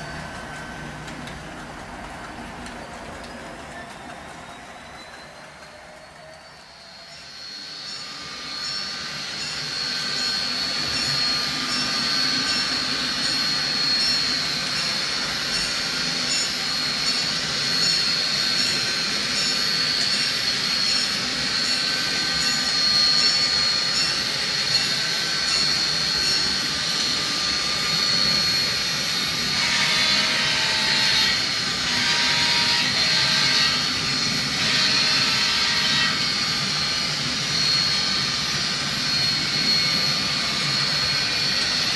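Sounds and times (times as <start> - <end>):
model train high-pitched whine: 0.0 - 41.9.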